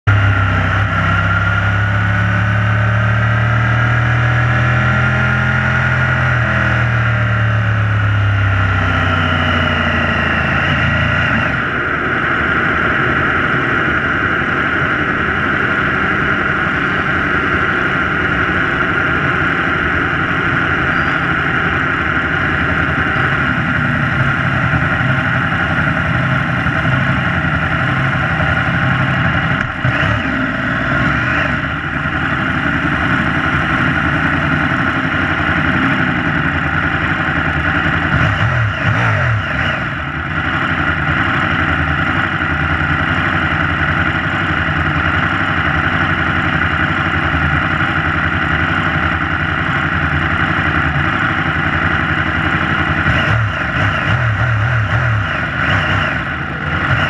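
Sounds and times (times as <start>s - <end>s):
motorcycle engine idling: 6.3s - 57.0s.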